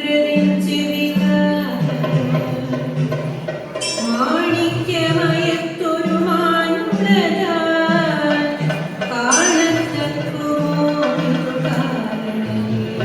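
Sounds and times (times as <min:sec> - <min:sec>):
percussion: 0:00.0 - 0:13.0.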